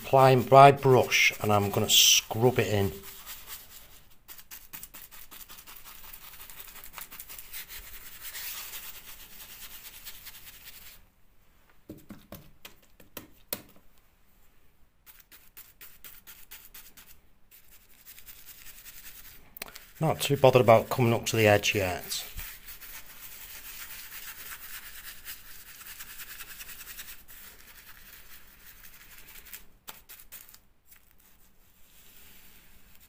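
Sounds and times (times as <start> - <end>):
paintbrush scrubbing wall: 0.0 - 11.0, 15.0 - 33.0.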